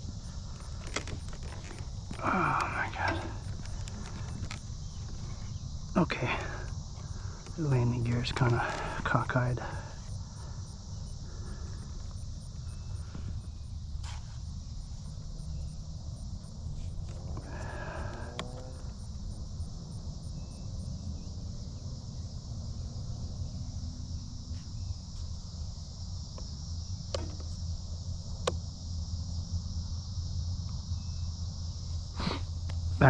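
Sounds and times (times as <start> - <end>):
crickets and insects trilling: 0.0 - 33.0.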